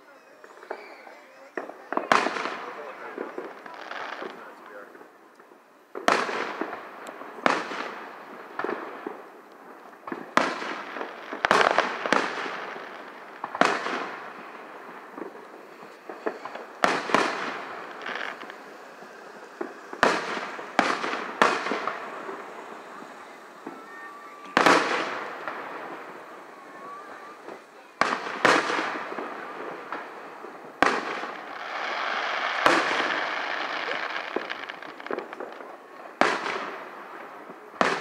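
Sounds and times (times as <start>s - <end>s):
firework booms echoing: 1.6s - 5.1s, 5.9s - 38.0s.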